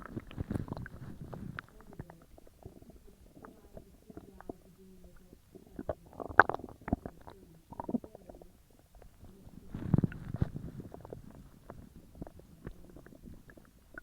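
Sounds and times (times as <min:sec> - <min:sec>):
stomach gurgling and rumbling: 0:00.0 - 0:14.0.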